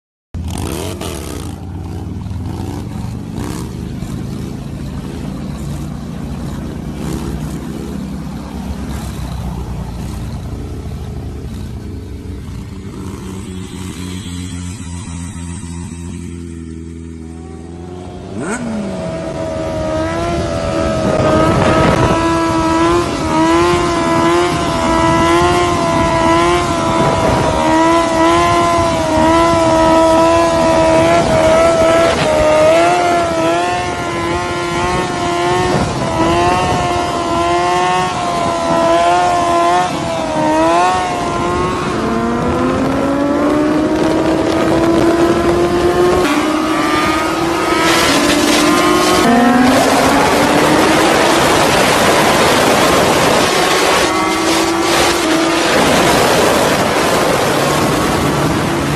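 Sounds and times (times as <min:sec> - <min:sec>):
motorcycle engine revving: 0:00.4 - 0:58.9.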